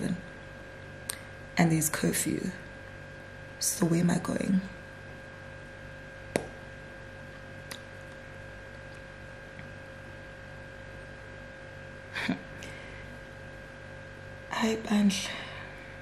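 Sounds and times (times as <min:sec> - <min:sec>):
steady two-pitch hum: 0:00.0 - 0:16.0.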